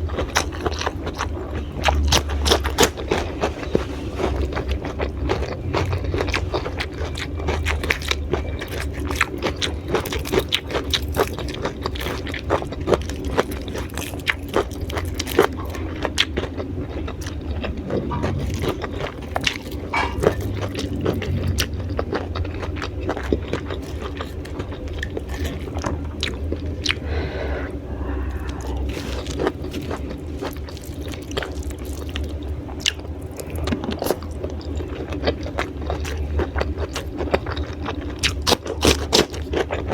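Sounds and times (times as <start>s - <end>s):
chewing crunchy raw vegetables: 0.0s - 39.9s.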